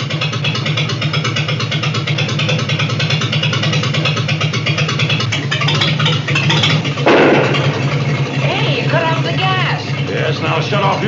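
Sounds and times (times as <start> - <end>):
engine puttering: 0.0 - 11.0.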